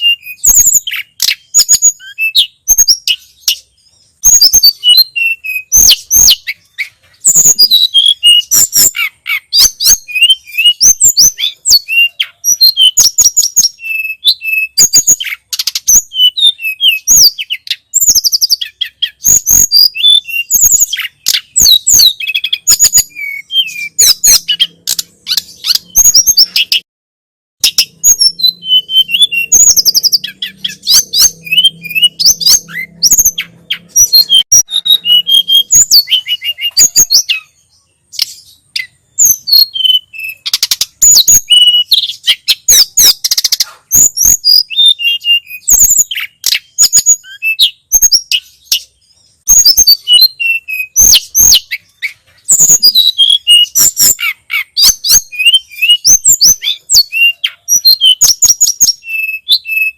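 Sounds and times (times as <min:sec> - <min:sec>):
songbird chirping and trilling: 0:00.0 - 0:26.9, 0:27.6 - 0:59.9.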